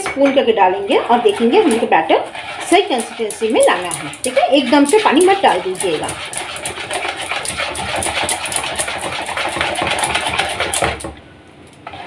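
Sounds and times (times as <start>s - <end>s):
whisk beating batter in bowl: 0.1s - 11.1s.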